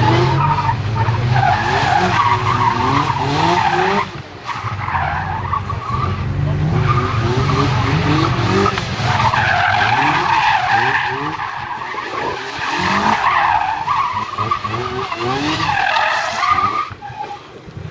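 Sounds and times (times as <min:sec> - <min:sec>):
car engine revving: 0:00.0 - 0:17.0
tyres squealing on concrete: 0:00.0 - 0:17.4.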